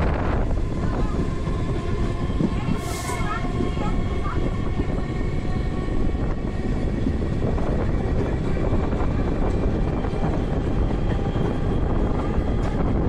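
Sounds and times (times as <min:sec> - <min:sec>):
passenger train rumbling along track: 0:00.0 - 0:13.0.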